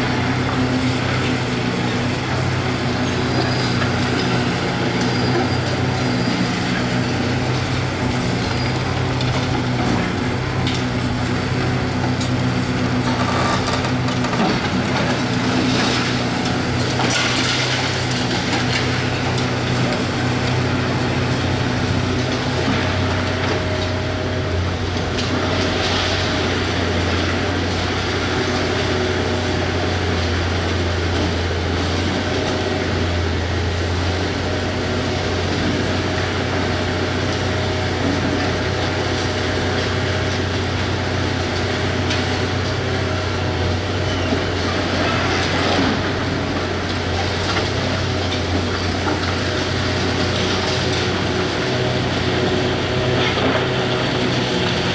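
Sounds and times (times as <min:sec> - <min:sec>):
demolition crunching and scraping: 0:00.0 - 0:54.9
excavator diesel engine: 0:00.0 - 0:54.9.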